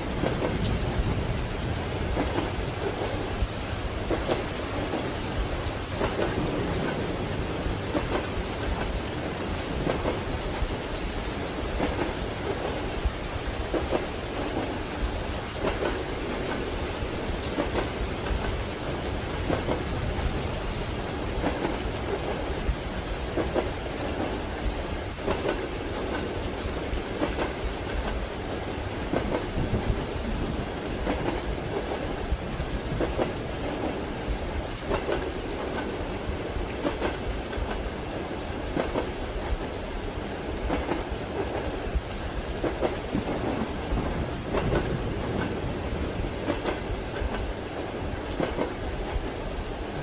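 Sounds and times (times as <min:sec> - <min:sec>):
steady rain: 0:00.0 - 0:50.0
train wheels clacking on rails: 0:00.0 - 0:50.0.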